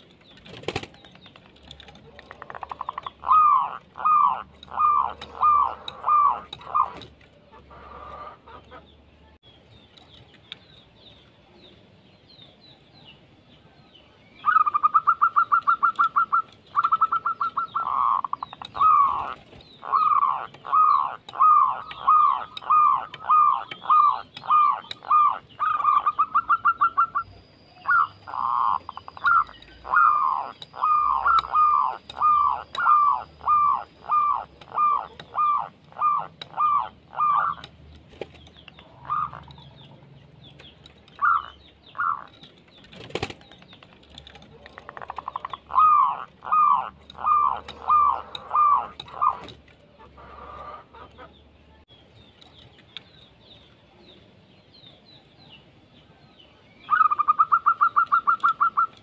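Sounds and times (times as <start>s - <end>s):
dove singing: 0.0s - 59.0s
small birds chirping: 0.0s - 59.0s.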